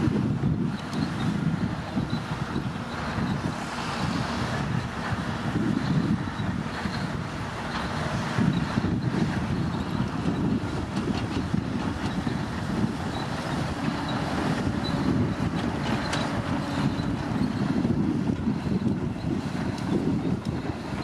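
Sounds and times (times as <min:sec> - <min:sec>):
bulldozer diesel engine droning: 0:00.0 - 0:21.0.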